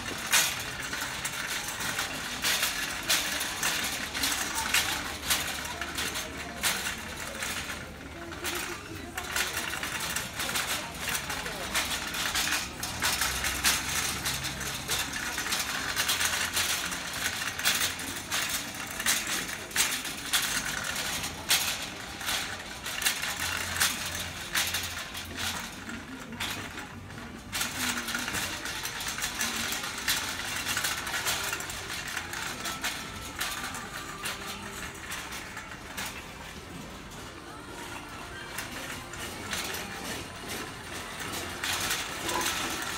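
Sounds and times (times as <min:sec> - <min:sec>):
cart wheels rolling rumble: 0:00.0 - 0:42.9
shopping cart rattling: 0:00.0 - 0:42.9.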